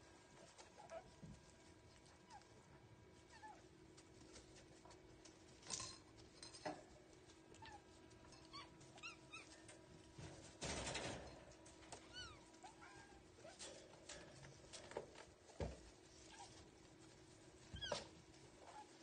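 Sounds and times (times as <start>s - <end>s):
rustling noise: 0.0s - 19.0s.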